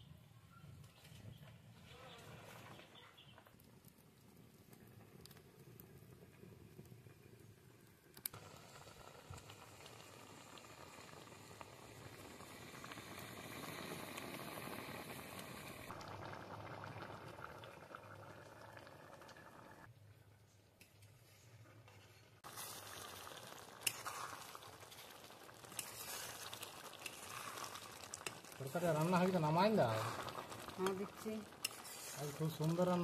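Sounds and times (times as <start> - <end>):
liquid bubbling in a pan: 1.0 - 33.0.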